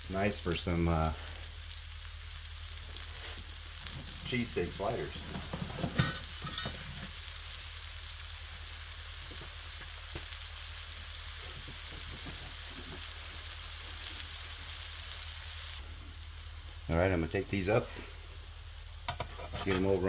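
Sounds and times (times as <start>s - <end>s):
meat and vegetables sizzling: 0.0s - 20.0s.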